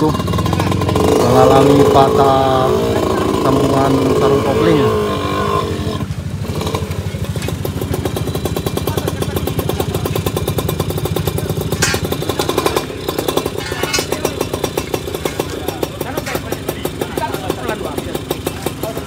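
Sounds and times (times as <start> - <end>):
engine running with pulsing beat: 0.0 - 19.0.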